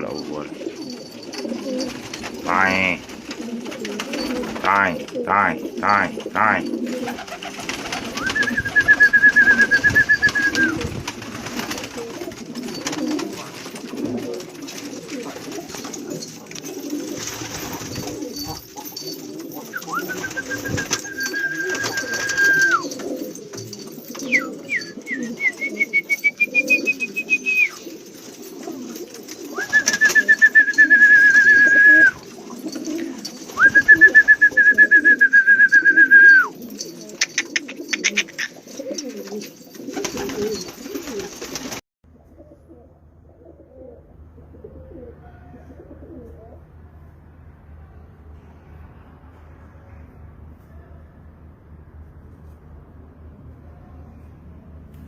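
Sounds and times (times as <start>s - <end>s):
pigeons cooing: 0.0s - 46.7s.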